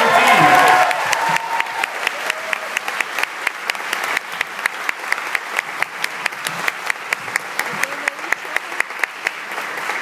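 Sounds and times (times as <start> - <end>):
audience applauding: 0.0 - 10.0
sharp claps near microphone: 0.7 - 10.0.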